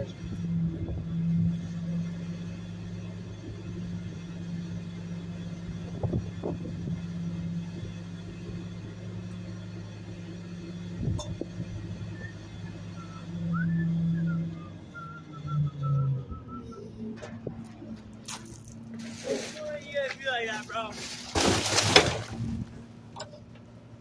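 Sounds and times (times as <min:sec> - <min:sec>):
garbage truck engine humming: 0:00.0 - 0:24.0.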